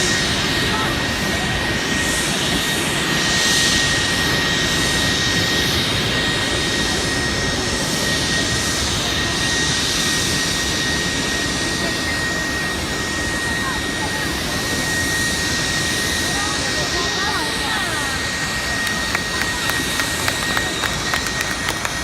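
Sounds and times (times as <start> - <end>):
engine roar with high whine: 0.0 - 22.0.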